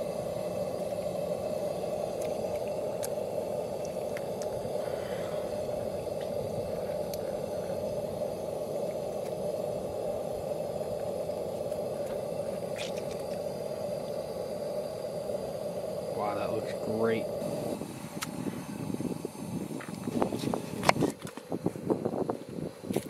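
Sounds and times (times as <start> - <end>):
gas heater hissing: 0.0 - 23.0.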